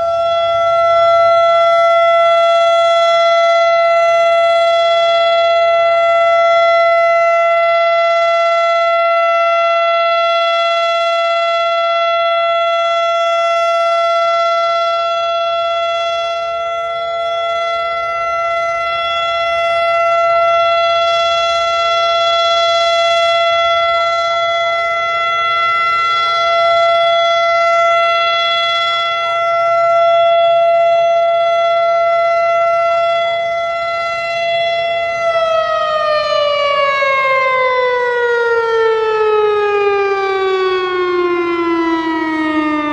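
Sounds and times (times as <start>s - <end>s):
warning siren wailing: 0.0s - 42.9s.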